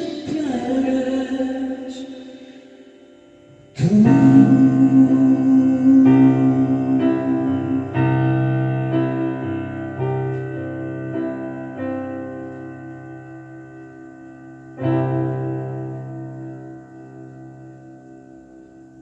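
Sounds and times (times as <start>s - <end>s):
piano chords ringing: 0.0s - 19.0s.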